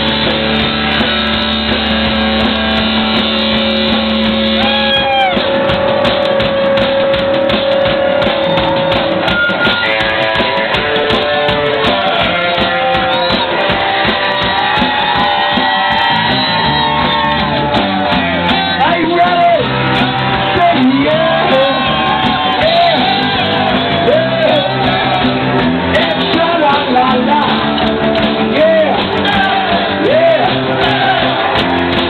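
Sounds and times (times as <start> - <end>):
rock band playing: 0.0 - 32.0.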